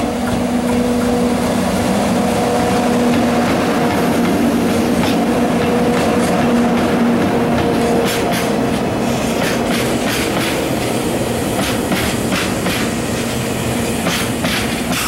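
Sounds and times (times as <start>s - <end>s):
electric locomotive hum: 0.0s - 15.0s
train wheels rumbling: 0.0s - 15.0s.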